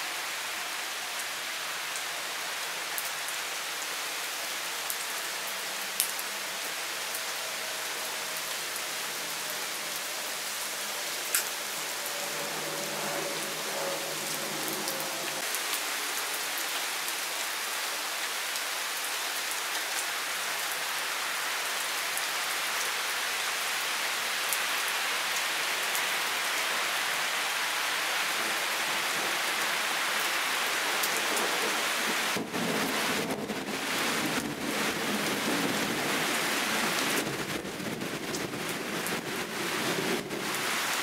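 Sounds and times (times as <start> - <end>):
heavy rain on foliage: 0.0 - 41.0.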